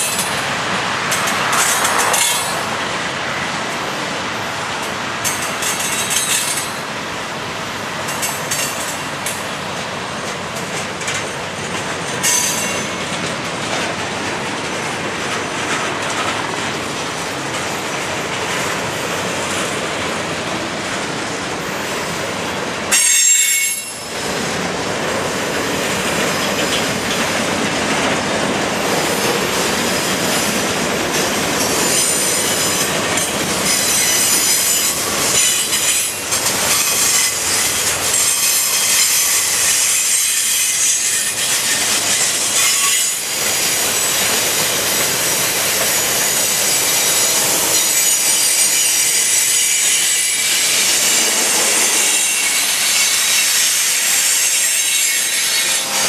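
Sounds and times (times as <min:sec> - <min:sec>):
clickety-clack over rail joints: 0:00.0 - 0:56.0
train wheels rumbling on rails: 0:00.0 - 0:56.0.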